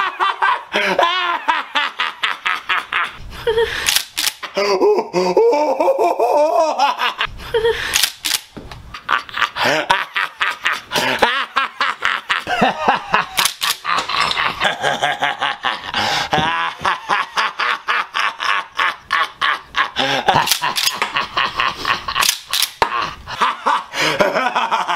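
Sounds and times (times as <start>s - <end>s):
people laughing hard: 0.0s - 8.1s, 8.9s - 24.9s.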